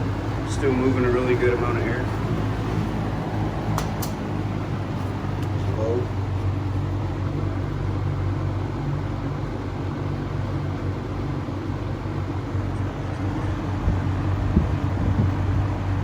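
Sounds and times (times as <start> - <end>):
air rushing from fan blade: 0.0 - 16.0
box fan motor hum: 0.0 - 16.0.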